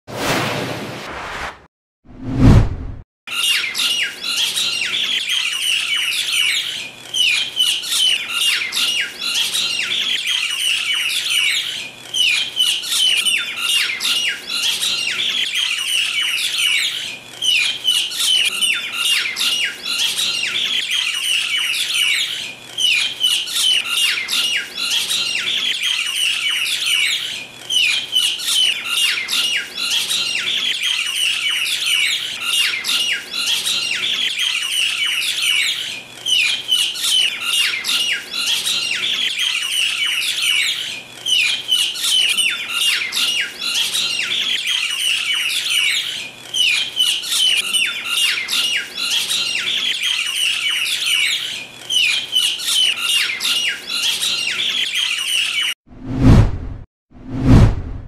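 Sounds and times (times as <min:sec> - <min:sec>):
birds squawking harshly: 0:03.3 - 0:55.8.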